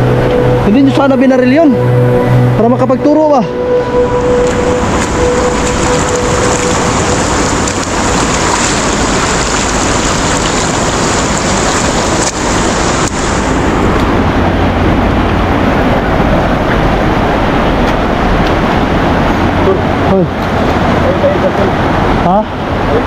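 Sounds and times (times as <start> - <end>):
river rushing over rocks: 4.0 - 23.0.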